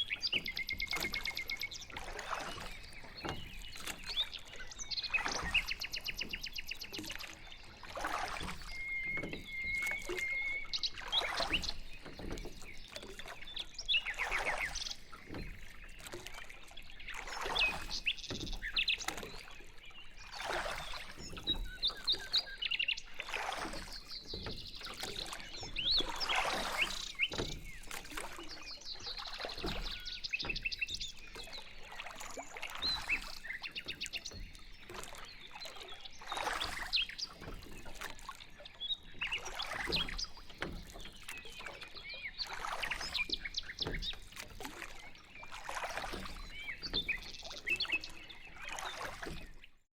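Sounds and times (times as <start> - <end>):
small birds chirping: 0.0 - 44.4
paddle splashing water: 0.0 - 49.9.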